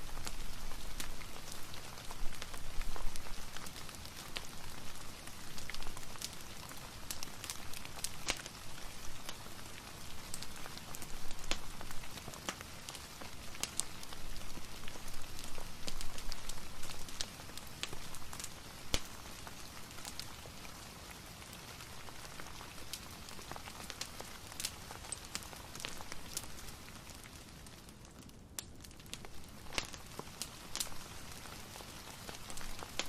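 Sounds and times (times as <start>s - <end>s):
sharp clicks of raindrops: 0.0s - 33.0s
steady rain falling: 0.0s - 33.0s
wood fire crackling: 0.0s - 33.0s.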